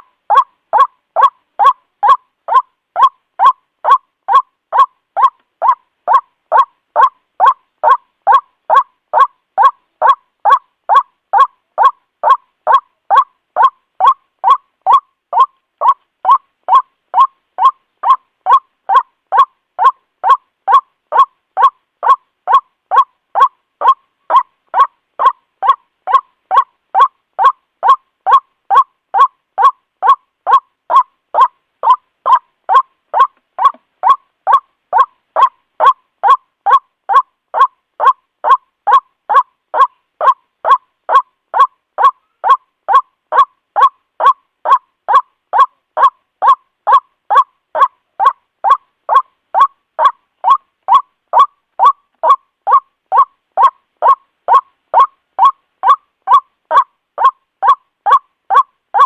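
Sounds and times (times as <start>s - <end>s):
waterhen calling: 0.0s - 59.0s.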